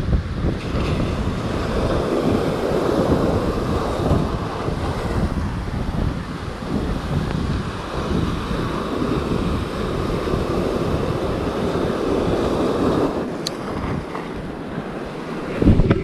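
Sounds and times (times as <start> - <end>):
waves breaking over rocks: 0.0 - 16.0
wind buffeting microphone: 0.0 - 16.0.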